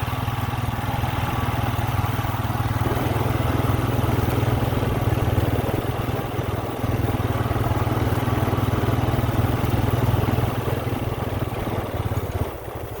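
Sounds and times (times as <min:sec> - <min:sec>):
engine running with pulsing hum: 0:00.0 - 0:13.0.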